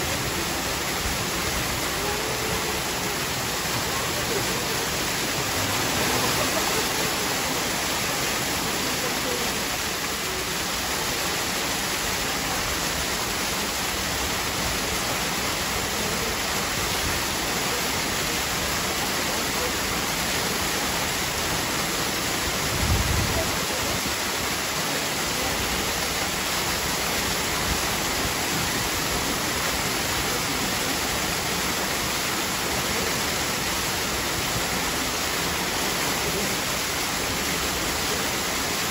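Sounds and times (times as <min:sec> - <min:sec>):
water falling into a pool: 0:00.0 - 0:38.9.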